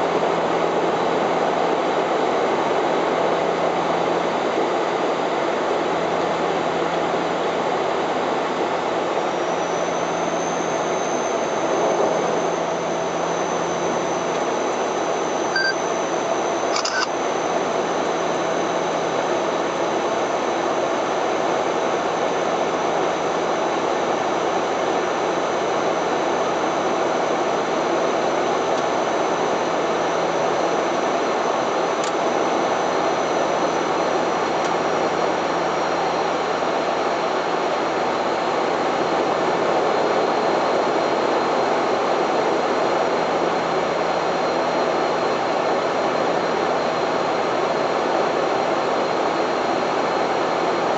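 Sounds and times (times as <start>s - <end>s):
turboprop engine drone: 0.0s - 50.9s
faint high whine: 4.1s - 50.9s.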